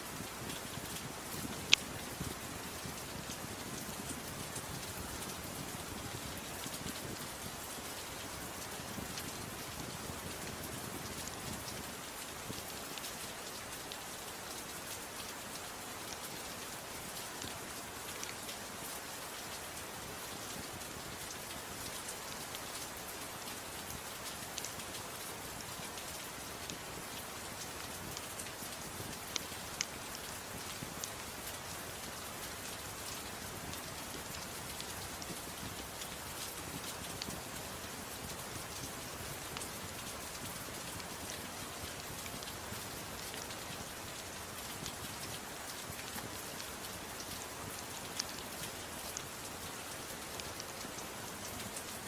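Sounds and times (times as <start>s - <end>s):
steady rain falling: 0.0s - 52.0s
ticks of raindrops: 0.0s - 52.0s.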